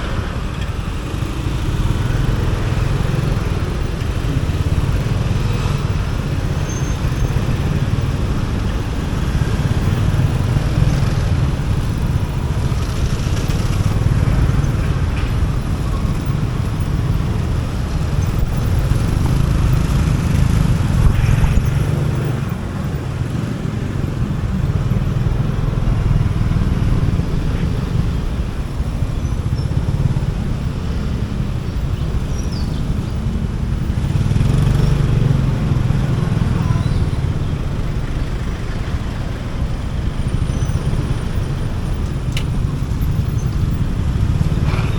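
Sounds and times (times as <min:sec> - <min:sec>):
motorcycle engine running: 0:00.0 - 0:44.9
road noise: 0:00.0 - 0:44.9.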